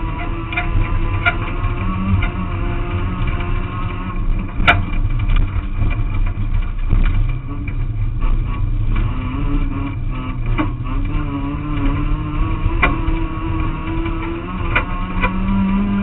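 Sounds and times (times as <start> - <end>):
car engine running hard: 0.0 - 16.0.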